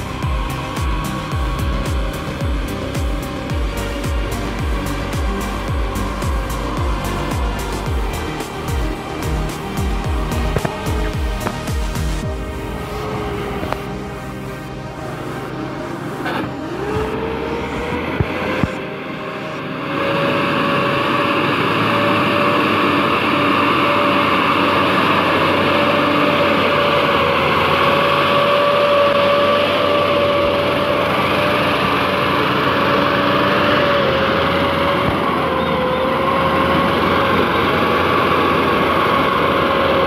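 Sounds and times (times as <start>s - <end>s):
truck engine at high revs: 0.0s - 40.0s.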